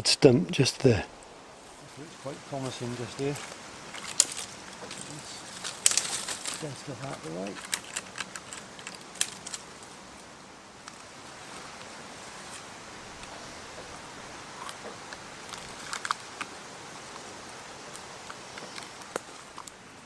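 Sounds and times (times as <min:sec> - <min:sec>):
woodland background hiss: 0:00.0 - 0:20.0
rustling of strap and undergrowth: 0:01.0 - 0:20.0.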